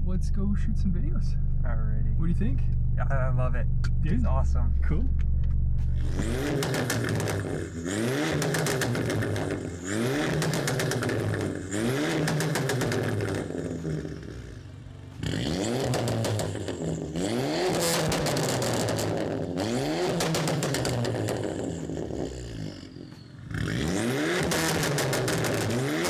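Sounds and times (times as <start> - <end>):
exhaust crackles and pops: 0.0 - 26.0
turbo car engine revving: 0.0 - 26.0.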